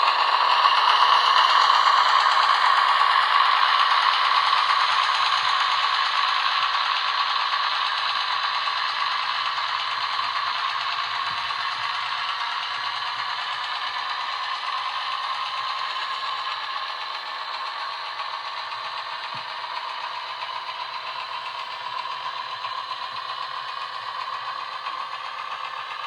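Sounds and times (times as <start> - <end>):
model locomotive rattling on track: 0.0 - 26.0.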